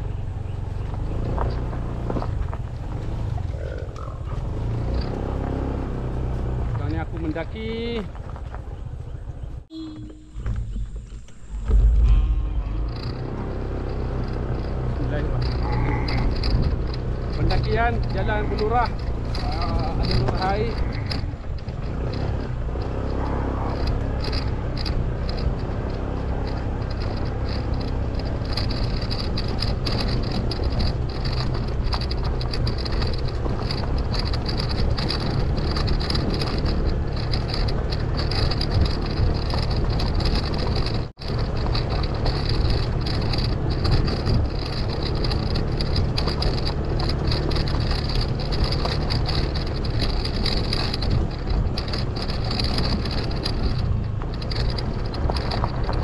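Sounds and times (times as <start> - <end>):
scooter engine droning: 0.0 - 56.0.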